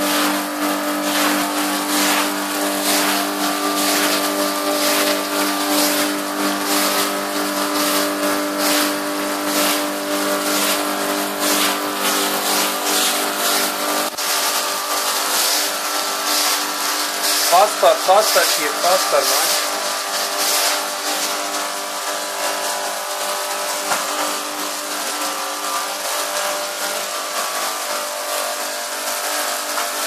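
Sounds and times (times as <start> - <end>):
broom scrubbing rug: 0.0 - 28.2
machine motor hum: 0.2 - 30.0.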